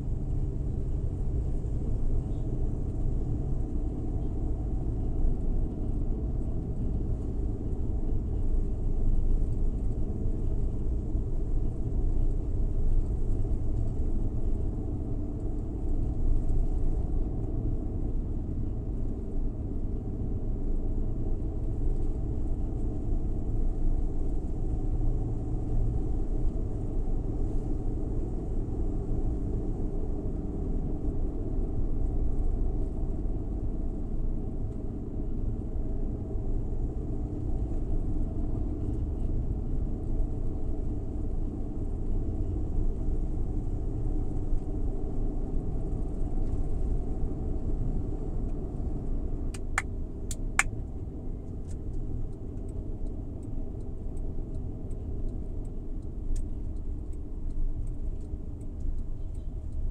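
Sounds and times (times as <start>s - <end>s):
van engine and tyre rumble: 0.0s - 59.9s.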